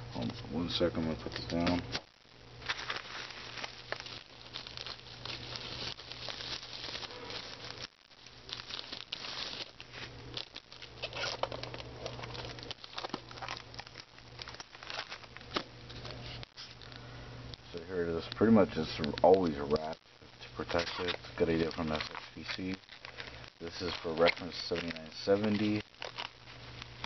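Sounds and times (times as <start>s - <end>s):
low steady hum: 0.0s - 27.0s
bubble wrap crinkling: 0.9s - 27.0s.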